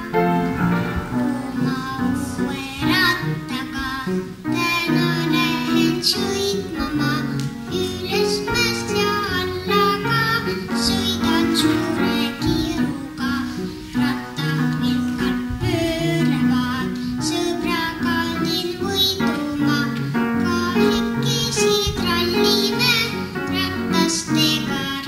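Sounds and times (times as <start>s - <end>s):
boy singing into microphone: 0.0s - 25.0s
instrumental accompaniment: 0.0s - 25.0s.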